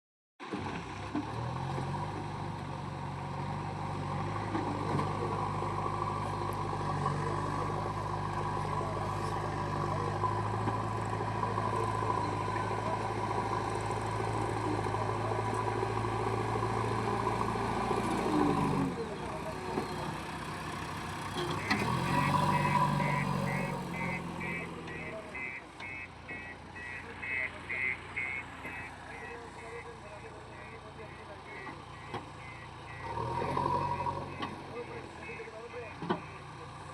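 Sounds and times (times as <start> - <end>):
heavy machine engine running: 0.5 - 36.9.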